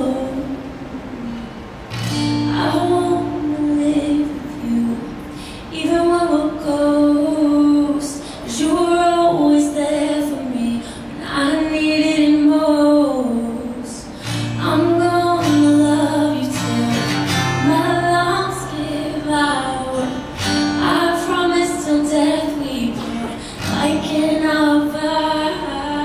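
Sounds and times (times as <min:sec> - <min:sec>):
acoustic guitar: 0:00.0 - 0:26.0
woman singing wordless notes: 0:00.0 - 0:26.0.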